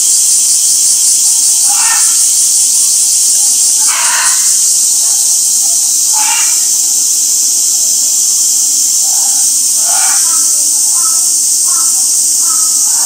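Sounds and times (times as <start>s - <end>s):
cicada chorus hissing: 0.0s - 13.0s.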